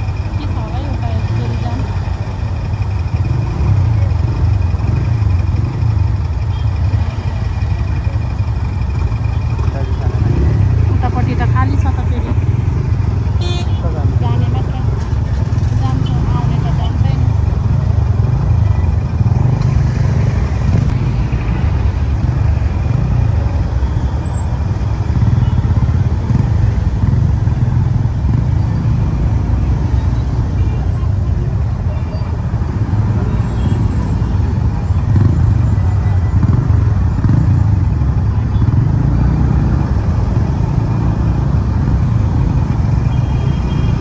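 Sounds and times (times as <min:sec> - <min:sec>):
motorcycle engine and road noise: 0:00.0 - 0:44.0.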